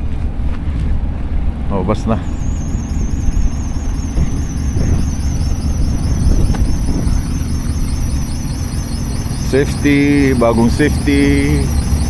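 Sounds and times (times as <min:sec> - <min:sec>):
steady low rumble: 0:00.0 - 0:12.0
faint wavering high whine: 0:01.7 - 0:12.0.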